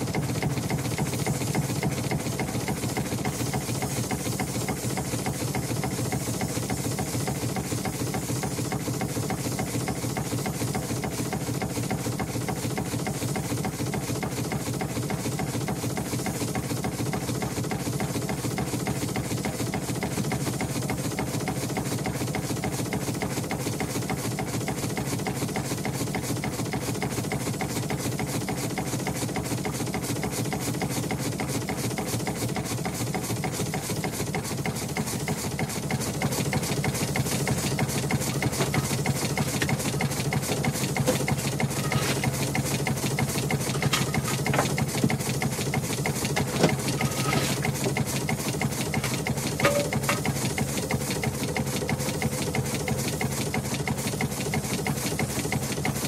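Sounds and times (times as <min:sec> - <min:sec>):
steam engine running: 0:00.0 - 0:56.0.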